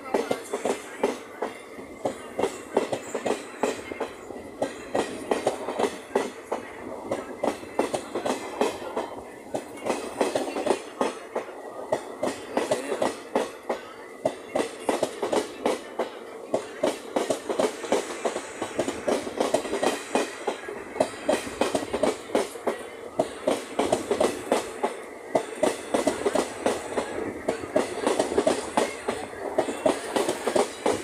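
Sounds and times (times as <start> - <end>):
steady train rumble: 0.0 - 31.0
train wheels clattering over rail joints: 0.0 - 31.0.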